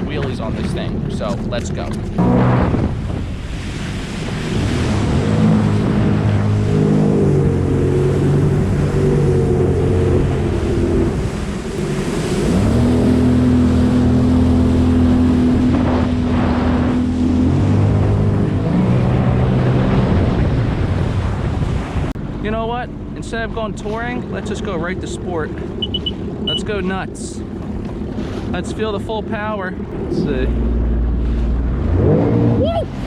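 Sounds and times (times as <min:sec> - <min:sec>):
jet ski engine running: 0:00.0 - 0:33.0
water rushing under hull: 0:00.0 - 0:33.0
wind buffeting microphone: 0:00.0 - 0:33.0.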